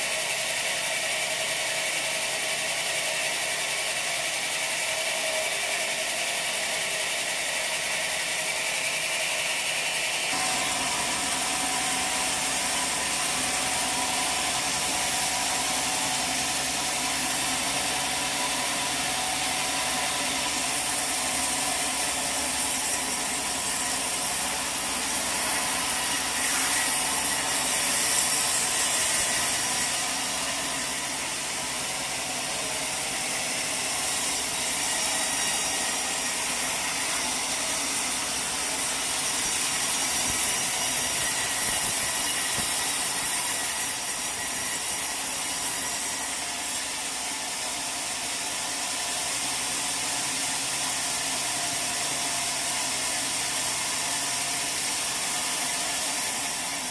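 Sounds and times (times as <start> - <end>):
saw cutting through log: 0.0 - 56.9.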